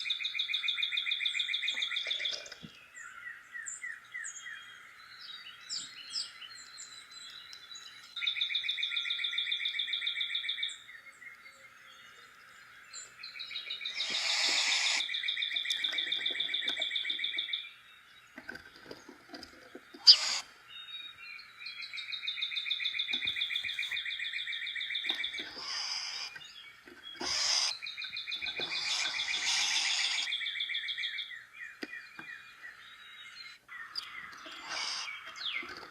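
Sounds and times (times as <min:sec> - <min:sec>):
songbird trilling: 0:00.0 - 0:17.8, 0:19.9 - 0:35.9.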